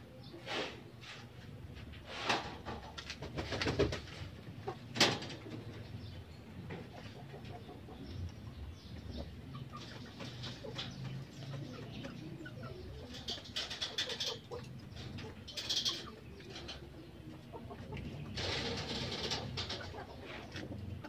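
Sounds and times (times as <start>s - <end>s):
birds calling: 2.7s - 21.0s.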